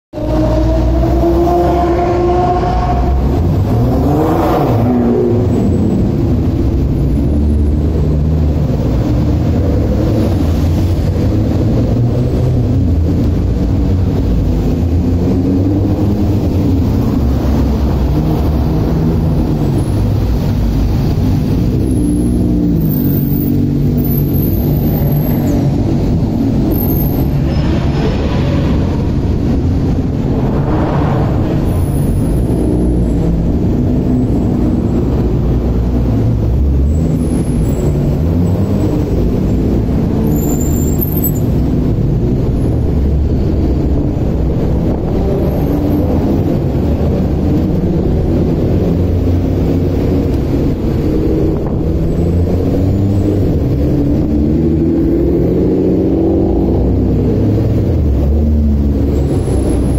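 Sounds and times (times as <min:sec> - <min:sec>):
sports cars driving past: 0:00.2 - 0:59.9.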